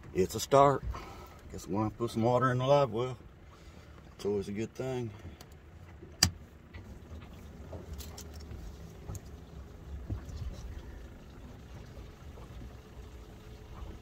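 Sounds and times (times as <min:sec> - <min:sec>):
pump humming faintly: 0:00.0 - 0:14.0.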